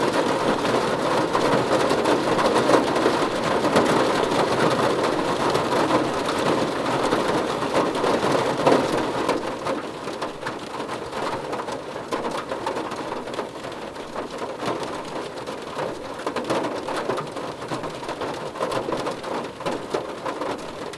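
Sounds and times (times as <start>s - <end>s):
heavy rain on a hard surface: 0.0s - 20.9s.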